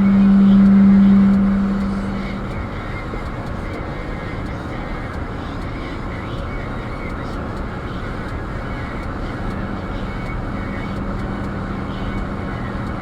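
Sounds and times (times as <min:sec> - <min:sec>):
low droning hum: 0:00.0 - 0:13.0
road noise: 0:00.0 - 0:13.0.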